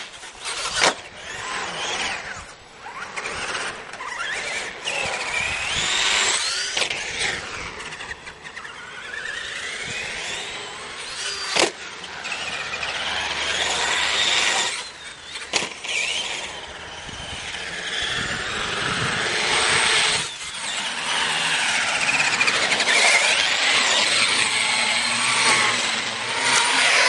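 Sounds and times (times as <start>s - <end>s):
toy truck electric motor whining: 0.0s - 27.0s
tyres on concrete: 0.0s - 27.0s.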